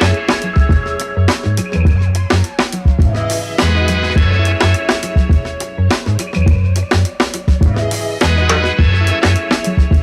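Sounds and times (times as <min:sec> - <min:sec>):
background music with drums: 0:00.0 - 0:10.0.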